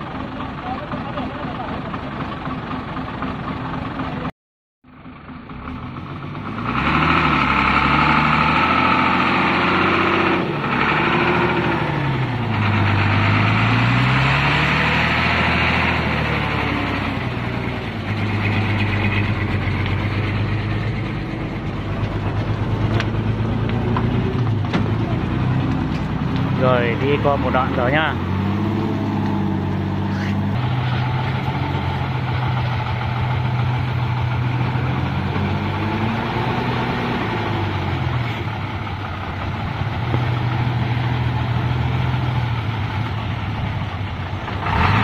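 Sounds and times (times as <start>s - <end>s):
diesel truck engine labouring: 0.0s - 45.0s.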